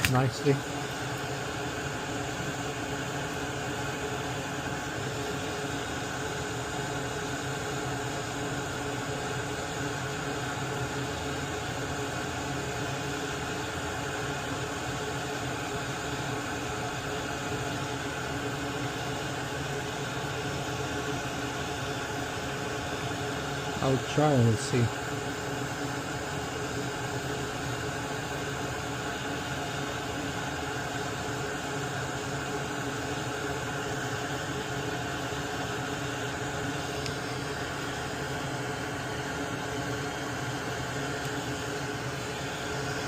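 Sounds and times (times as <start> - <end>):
fan whirring and hissing: 0.0 - 43.0.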